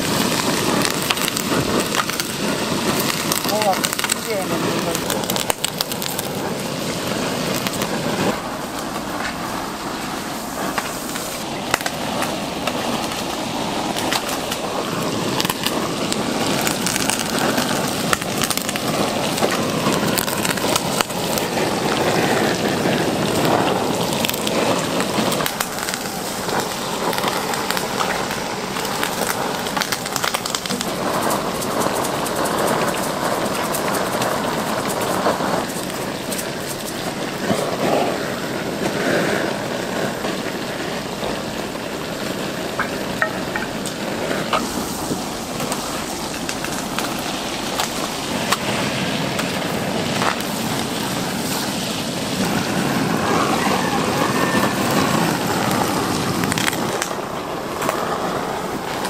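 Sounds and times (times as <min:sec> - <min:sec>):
sharp pops and clicks: 0:00.0 - 0:22.2, 0:23.2 - 0:37.8, 0:42.7 - 0:51.6, 0:55.5 - 0:58.2
meat sizzling on a grill: 0:00.0 - 0:59.0.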